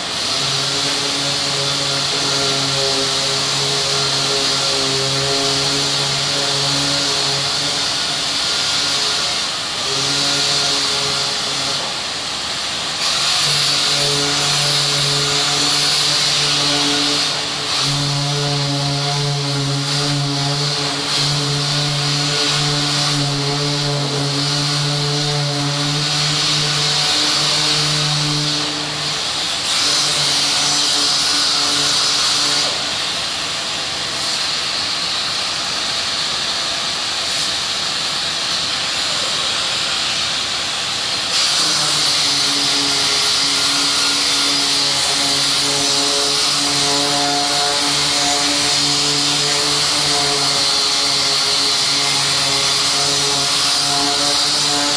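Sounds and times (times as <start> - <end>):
sandpaper hissing on filler: 0.0 - 54.9.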